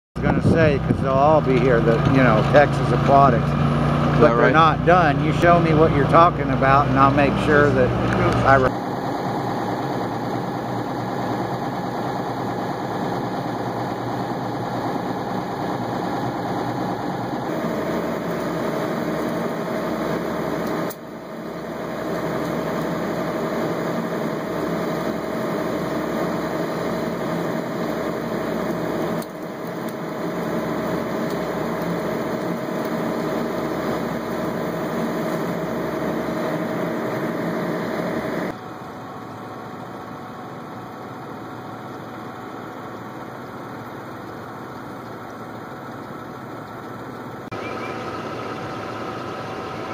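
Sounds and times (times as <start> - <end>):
machine engine humming: 0.2 - 49.9.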